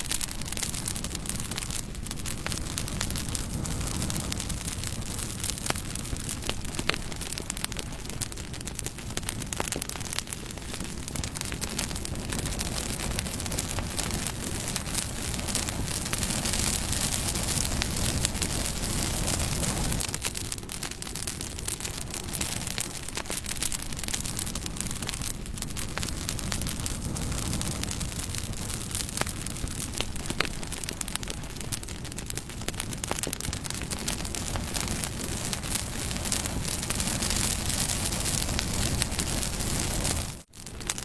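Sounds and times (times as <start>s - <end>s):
campfire flames rushing: 0.0s - 41.0s
fire crackling and popping: 0.0s - 41.0s.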